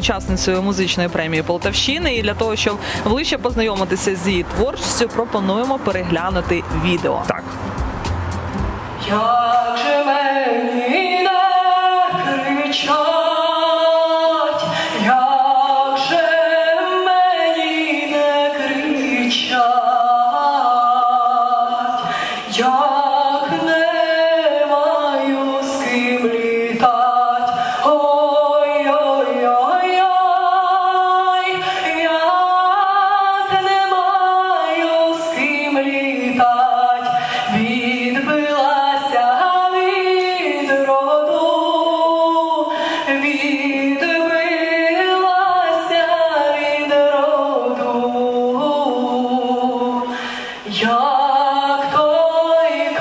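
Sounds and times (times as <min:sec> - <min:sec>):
woman singing a cappella: 0:00.0 - 0:07.4, 0:09.0 - 0:53.0.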